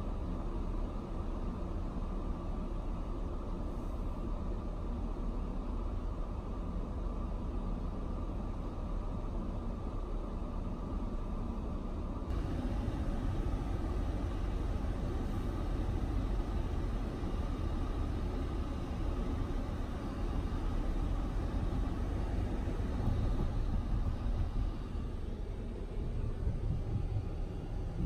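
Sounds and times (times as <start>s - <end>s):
car road and engine noise: 0.0s - 28.0s.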